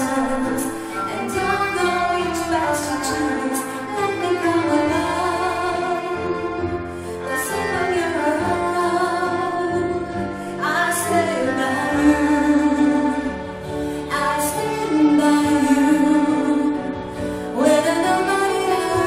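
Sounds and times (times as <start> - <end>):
instrumental accompaniment: 0.0 - 19.0
woman singing with vibrato: 0.0 - 19.0.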